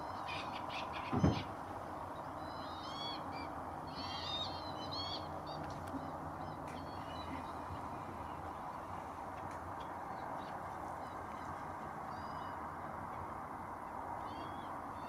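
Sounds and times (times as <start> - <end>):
lapwings and gulls calling: 0.0 - 1.6, 2.4 - 12.9.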